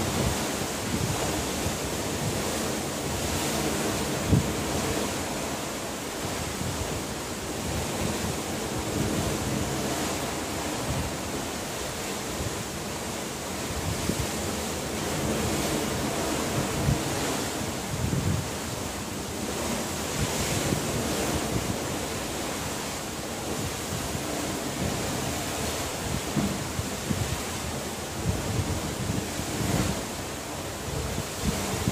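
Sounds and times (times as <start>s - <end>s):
rush of wind and sea: 0.0s - 31.9s
wind buffeting microphone: 0.0s - 31.9s.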